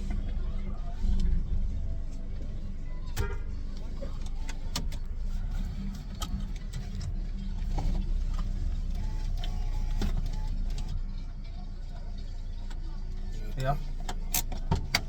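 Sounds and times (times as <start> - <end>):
car rumbling in motion: 0.0 - 15.0.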